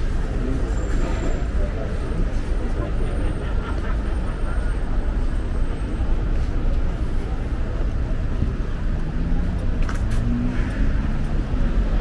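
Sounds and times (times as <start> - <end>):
rumble of passing cars: 0.0 - 12.0.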